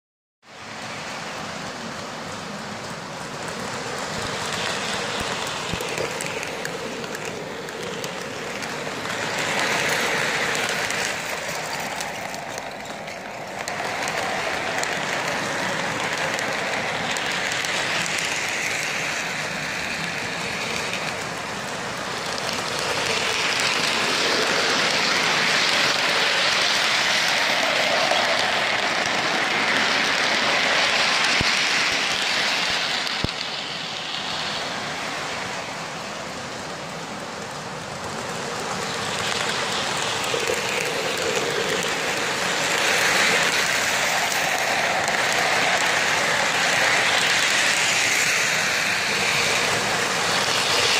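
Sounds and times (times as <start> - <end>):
toy train wheels clattering: 1.4 - 35.4, 37.6 - 50.9.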